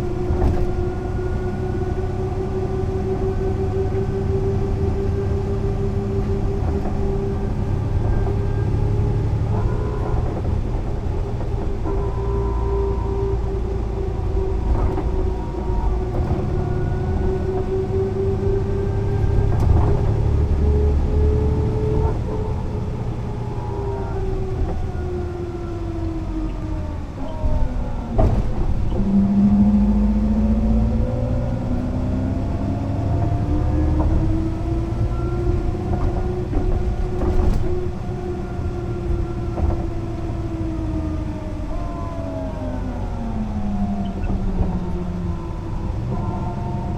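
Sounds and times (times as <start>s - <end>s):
bus engine rumble: 0.0s - 46.9s
drivetrain whine: 0.0s - 46.9s.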